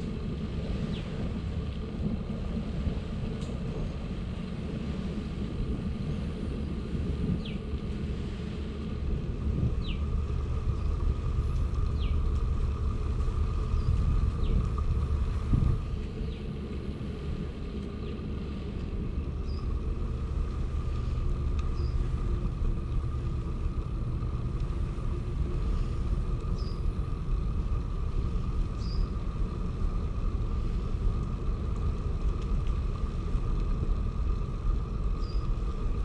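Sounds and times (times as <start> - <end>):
bicycle tyres rolling: 0.0 - 36.0
wind rumble on microphone: 0.0 - 36.0.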